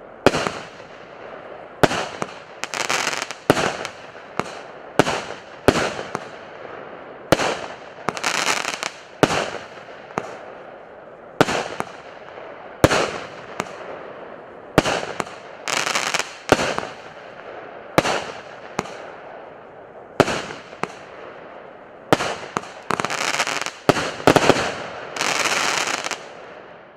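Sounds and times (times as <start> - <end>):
rush of firework bursts: 0.1 - 26.7
firework bangs: 0.2 - 6.5, 7.2 - 10.7, 11.4 - 19.5, 20.1 - 26.6.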